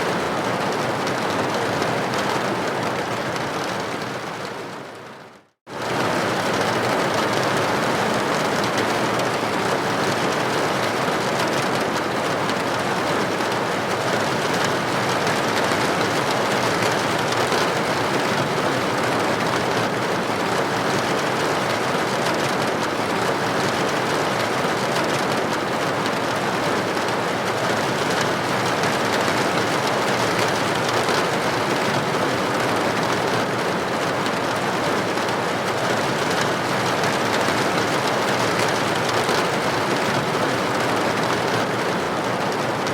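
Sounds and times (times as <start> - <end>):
raindrops ticking on window: 5.8 - 42.9
steady rain hiss: 5.8 - 42.9.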